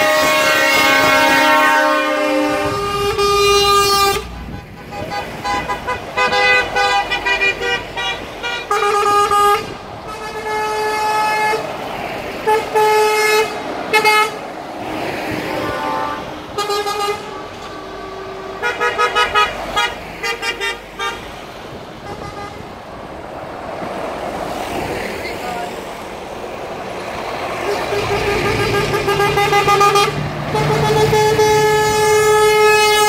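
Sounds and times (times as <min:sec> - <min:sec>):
truck horns tooting: 0:00.0 - 0:22.9, 0:27.4 - 0:33.0
trucks passing: 0:00.0 - 0:33.0.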